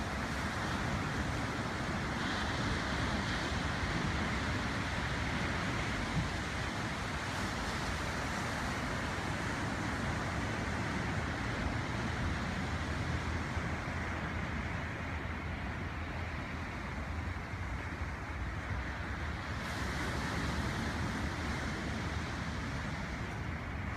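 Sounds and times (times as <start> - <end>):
small waves breaking on a beach: 0.0 - 23.9
wind rumbling on the microphone: 0.0 - 23.9.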